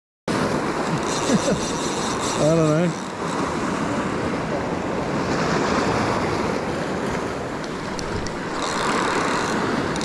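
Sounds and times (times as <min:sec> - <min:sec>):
ocean surf washing over rock: 0:00.3 - 0:10.0
wind on microphone: 0:00.3 - 0:10.0.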